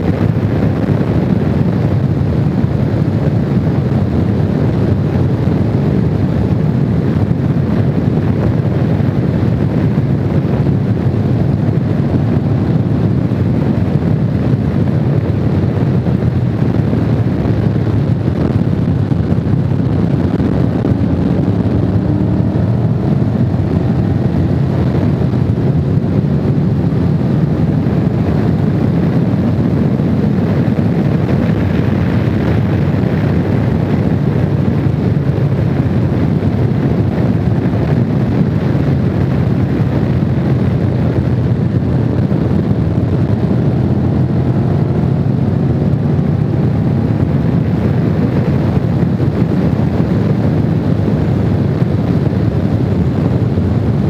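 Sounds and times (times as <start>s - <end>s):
motorcycle engine running: 0.0s - 54.0s
wind rushing on microphone: 0.0s - 54.0s.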